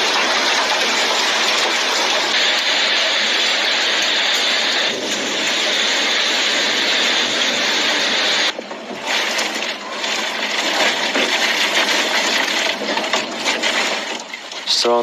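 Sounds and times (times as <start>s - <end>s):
hailstones clattering on hard surfaces: 0.0s - 15.0s
heavy hail and rain hissing: 0.0s - 15.0s.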